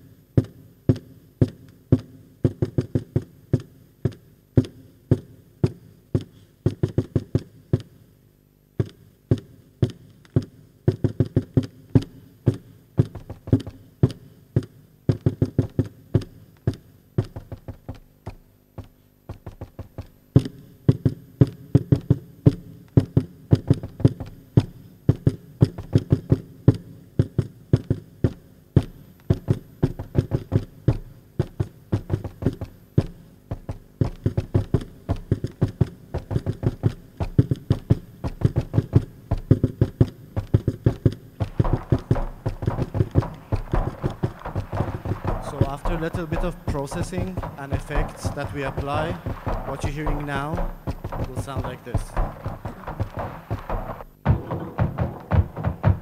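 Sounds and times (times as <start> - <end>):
balloons tapped by hand: 0.4 - 8.0, 8.8 - 56.0.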